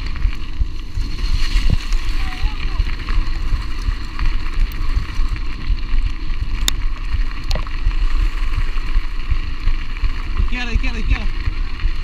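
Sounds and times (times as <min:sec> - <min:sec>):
tyres rolling on dirt road: 0:00.0 - 0:12.0
wind buffeting microphone: 0:00.0 - 0:12.0.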